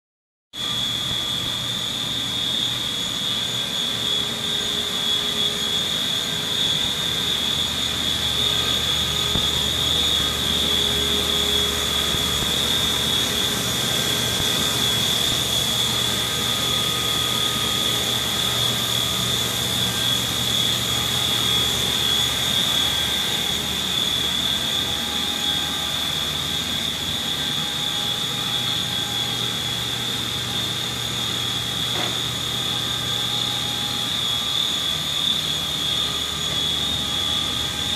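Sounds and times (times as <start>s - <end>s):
high-pitched whine: 0.6s - 37.9s
machining center whirring: 0.6s - 37.9s.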